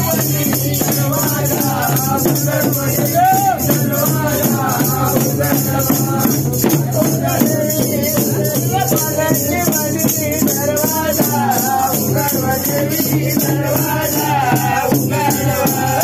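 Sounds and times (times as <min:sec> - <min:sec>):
barrel drums: 0:00.0 - 0:16.0
jingling cymbals and tambourines: 0:00.0 - 0:16.0
men singing devotional song: 0:00.0 - 0:16.0.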